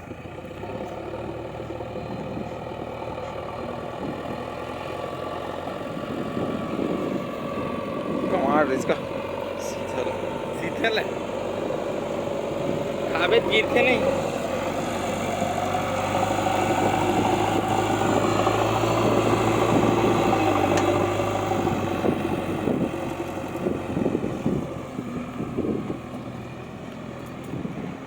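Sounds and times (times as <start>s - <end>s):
heavy machine engine humming: 0.0s - 28.0s.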